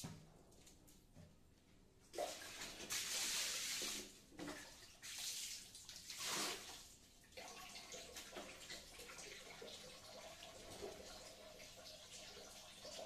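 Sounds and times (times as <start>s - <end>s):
water splashing on tiled floor: 2.1s - 13.0s.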